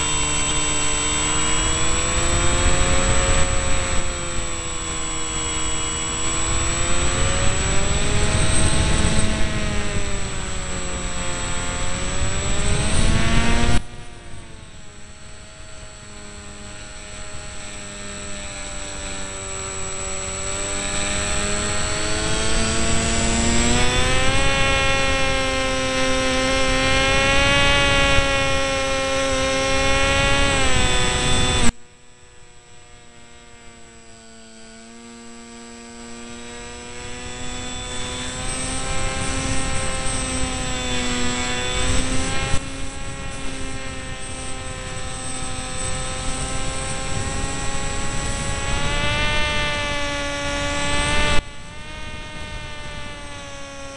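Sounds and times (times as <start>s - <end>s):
wind noise on microphone: 0.0s - 31.8s, 36.4s - 53.9s
electric motor and propeller whining: 0.0s - 53.9s.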